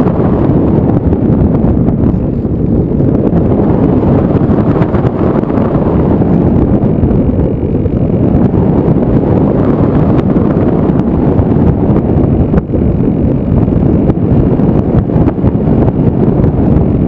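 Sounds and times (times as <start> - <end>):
wind noise buffeting microphone: 0.0 - 17.0.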